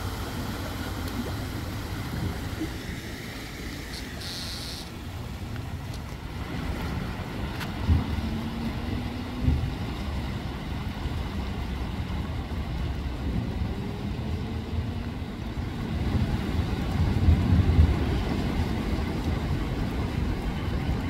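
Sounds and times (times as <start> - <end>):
wind noise on microphone: 1.5 - 21.0.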